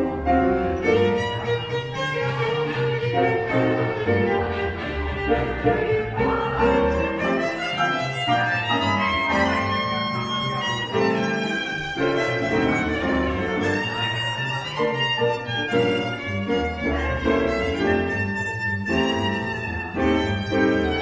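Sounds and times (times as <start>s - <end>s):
piano: 0.0s - 21.0s
plucked double bass: 0.0s - 21.0s
violin playing melody: 0.0s - 21.0s.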